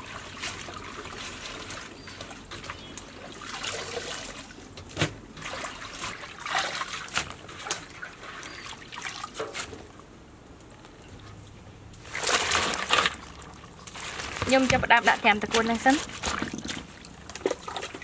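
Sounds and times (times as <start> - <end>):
water splashing: 0.0 - 4.7, 5.4 - 9.8, 12.0 - 18.0.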